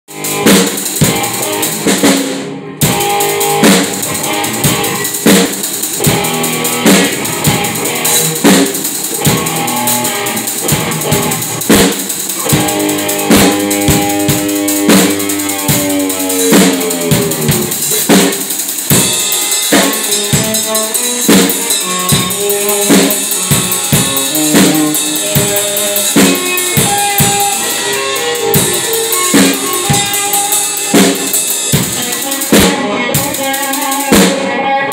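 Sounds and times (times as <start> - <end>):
drum kit solo: 0.1 - 34.9
cymbals crashing and ringing: 2.9 - 34.3.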